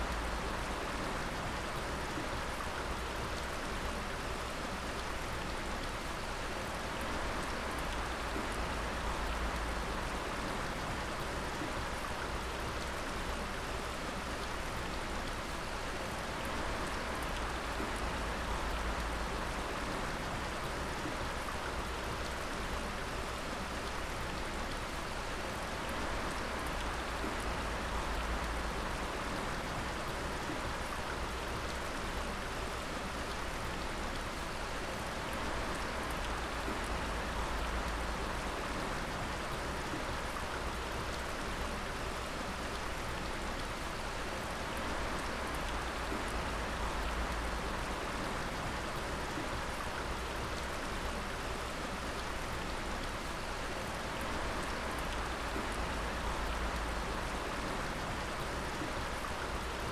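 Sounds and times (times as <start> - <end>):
water dripping and splashing: 7.0 - 59.9.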